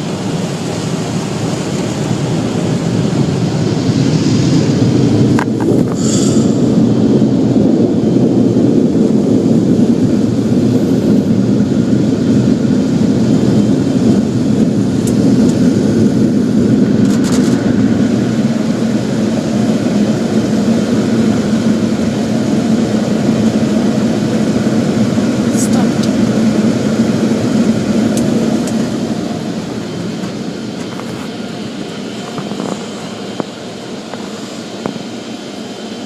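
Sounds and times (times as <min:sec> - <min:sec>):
car wash equipment roaring: 0:00.0 - 0:36.0.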